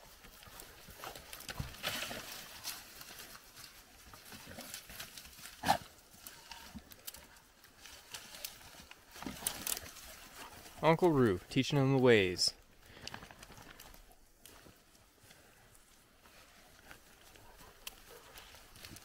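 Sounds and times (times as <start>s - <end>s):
footsteps through undergrowth: 0.0s - 11.5s, 12.2s - 19.0s.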